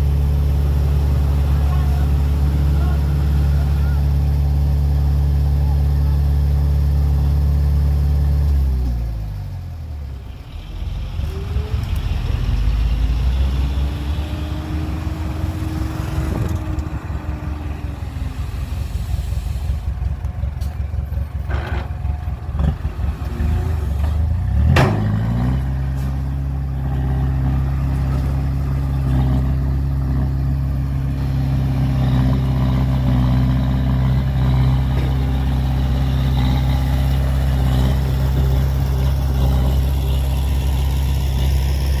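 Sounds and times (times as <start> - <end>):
diesel engine revving: 0.0 - 42.0.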